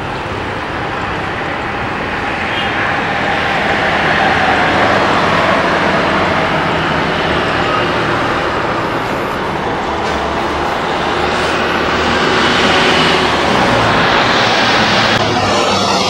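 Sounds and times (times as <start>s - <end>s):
jet airliner engine rush: 0.0s - 16.0s.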